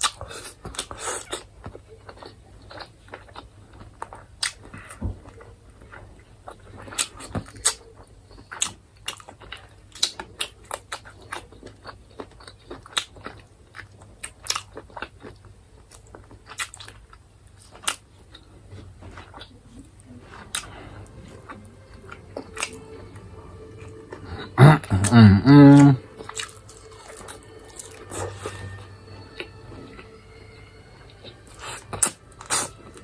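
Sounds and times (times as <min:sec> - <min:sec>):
person chewing and biting food: 0:00.0 - 0:30.5, 0:31.2 - 0:33.0.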